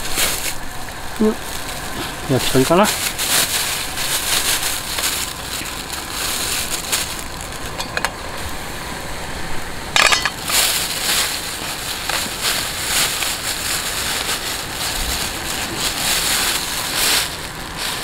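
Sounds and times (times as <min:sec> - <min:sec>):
plastic bag crinkling: 0:00.0 - 0:08.6, 0:10.0 - 0:18.0
steady hiss: 0:00.0 - 0:18.0.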